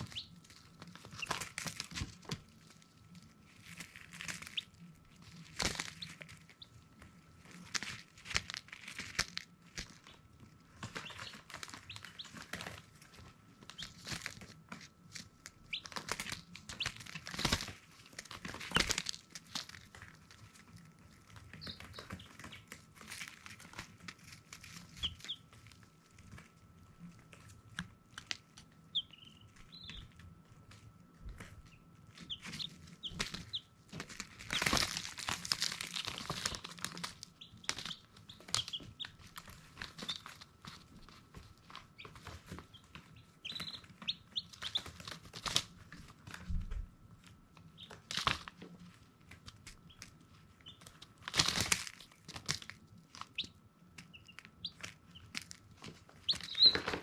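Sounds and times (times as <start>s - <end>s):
chicks peeping: 0.0s - 57.0s
chicks rustling and scratching: 0.0s - 57.0s
faint high hum: 0.0s - 57.0s.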